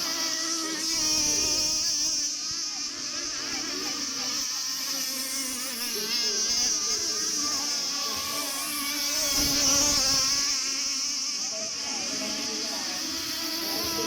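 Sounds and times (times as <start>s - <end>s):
model boat engines buzzing: 0.0s - 14.0s.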